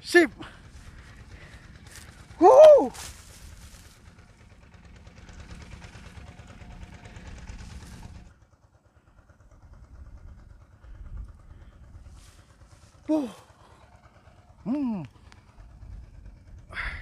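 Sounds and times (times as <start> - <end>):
faint engine running: 0.0 - 17.0.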